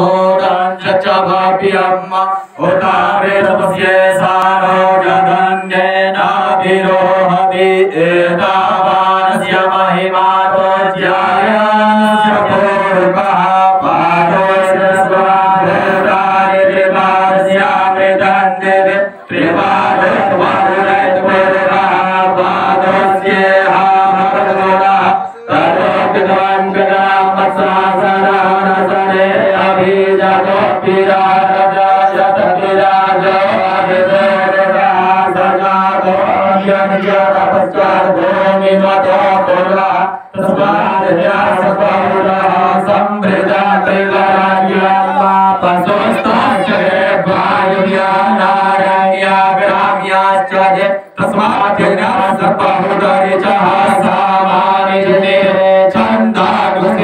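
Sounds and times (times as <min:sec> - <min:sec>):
men chanting into microphones: 0:00.0 - 0:57.0.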